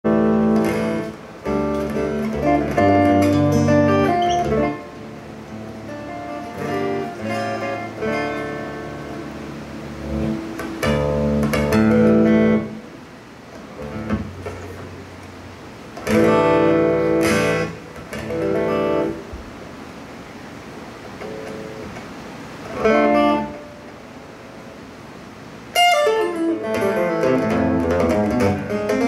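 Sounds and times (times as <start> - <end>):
fingerstyle acoustic guitar: 0.1 - 19.6, 21.0 - 24.0, 25.7 - 29.0.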